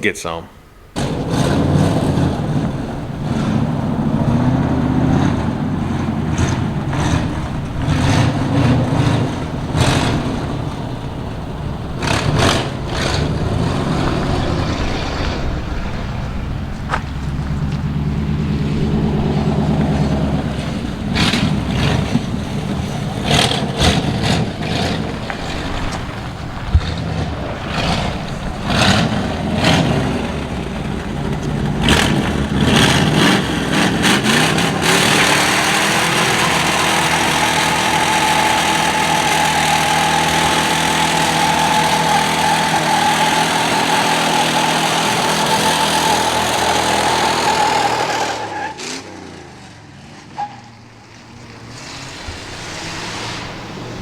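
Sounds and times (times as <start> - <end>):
tyres spinning with high whine: 0.0 - 54.0
car engine revving: 0.6 - 54.0.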